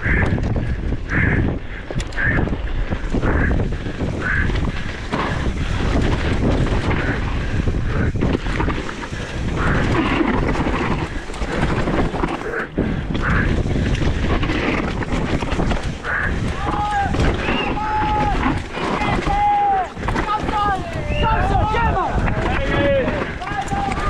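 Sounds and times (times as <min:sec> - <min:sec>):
bike knocks and rattles: 0:00.0 - 0:24.0
tyres rumbling on dirt: 0:00.0 - 0:24.0
wind buffeting microphone: 0:00.0 - 0:24.0.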